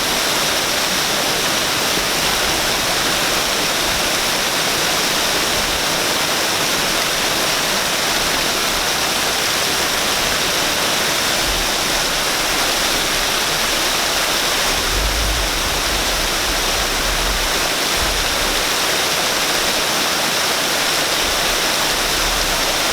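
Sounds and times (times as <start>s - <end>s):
waterfall rushing: 0.0s - 22.9s.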